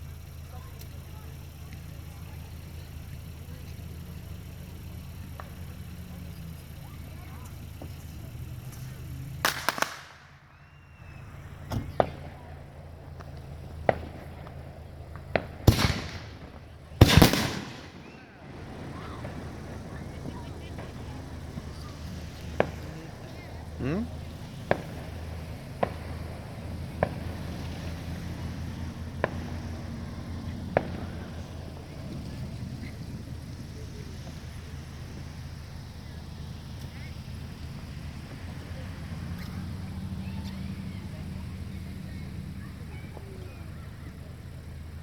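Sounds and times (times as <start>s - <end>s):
fireworks bangs and pops: 0.1s - 45.0s.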